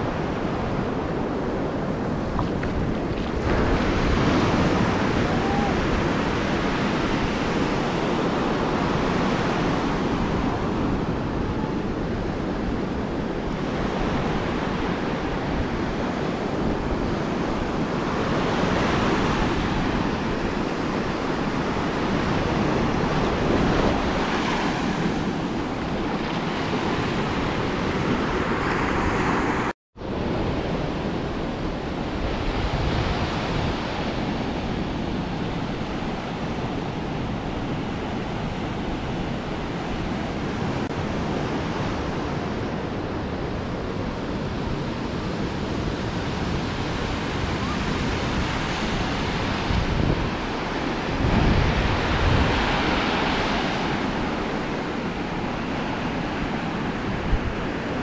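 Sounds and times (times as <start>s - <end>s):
ocean surf on beach: 0.0s - 58.0s
wind rumbling on microphone: 0.0s - 58.0s.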